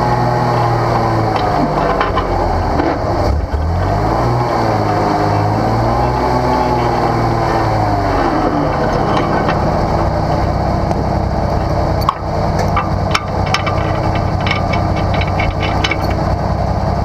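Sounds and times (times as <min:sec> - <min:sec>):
off-road engine running at low revs: 0:00.0 - 0:17.0.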